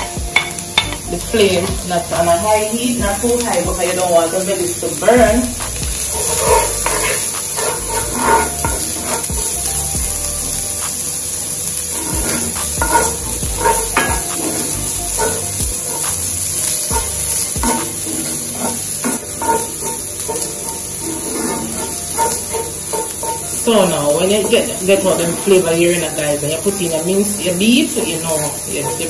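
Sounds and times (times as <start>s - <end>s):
vegetables sizzling in a skillet: 0.0s - 29.0s
wooden spoon scraping a pan: 0.4s - 29.0s.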